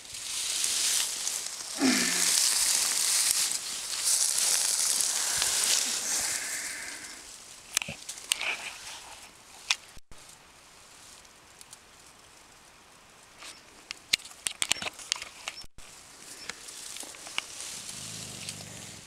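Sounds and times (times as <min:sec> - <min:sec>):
rustling undergrowth: 0:00.0 - 0:19.0.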